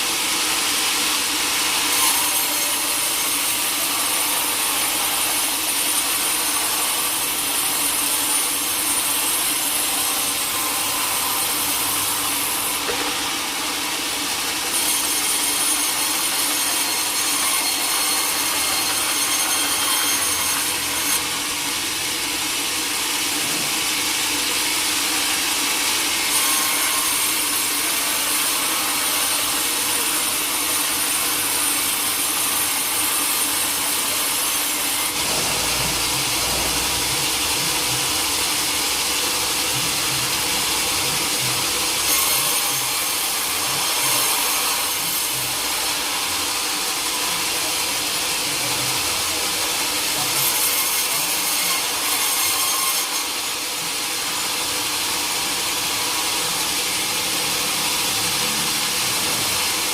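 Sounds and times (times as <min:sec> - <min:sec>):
saw cutting through log: 0:00.0 - 0:59.9.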